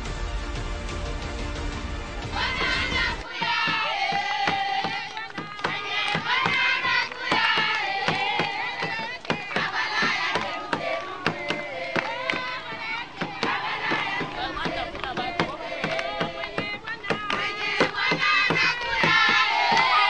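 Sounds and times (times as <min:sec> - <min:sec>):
women and children singing: 0:02.3 - 0:20.0
hand clapping: 0:03.2 - 0:19.9.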